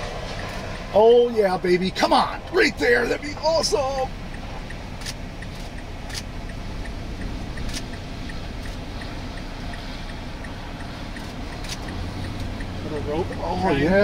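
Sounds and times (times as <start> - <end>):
vehicle interior rumble: 0.0 - 14.0
raindrops tapping windshield: 2.0 - 14.0.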